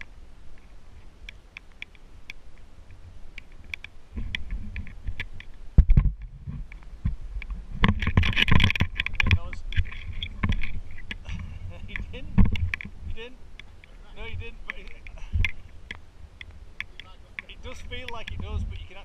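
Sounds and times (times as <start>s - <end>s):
wind rumbling on microphone: 0.0s - 19.0s
raindrops tapping on camera: 1.2s - 19.0s.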